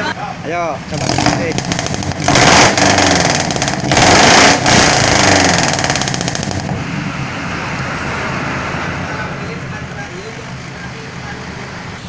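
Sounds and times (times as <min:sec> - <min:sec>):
truck engine revving and idling: 0:00.0 - 0:12.0.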